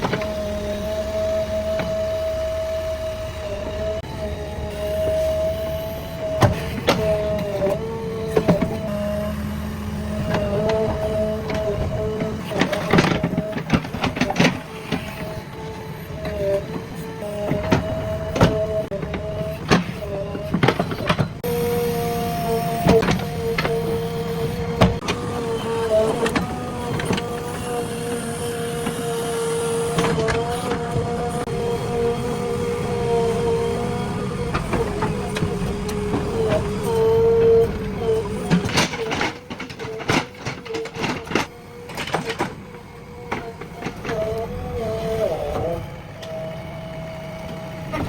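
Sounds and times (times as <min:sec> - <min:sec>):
diesel engine running: 0:00.0 - 0:48.0
hydraulic whine: 0:00.0 - 0:48.0.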